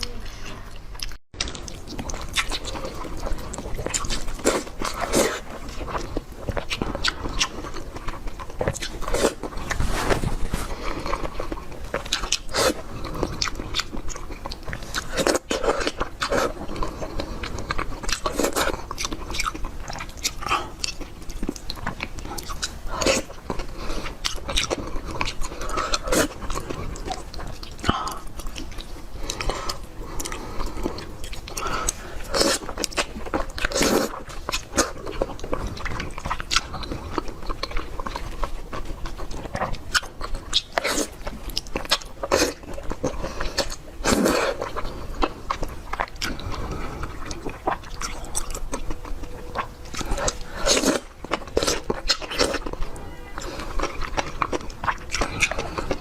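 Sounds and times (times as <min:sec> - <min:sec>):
person chewing and crunching: 0:00.0 - 0:56.0.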